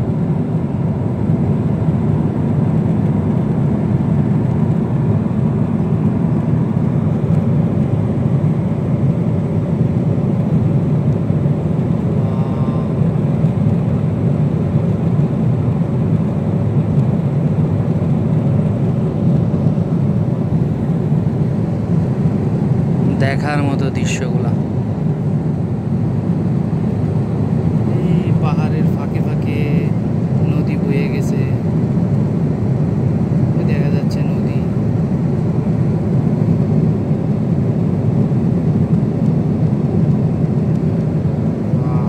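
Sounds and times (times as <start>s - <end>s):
jet airliner cabin rumble: 0.0s - 42.0s.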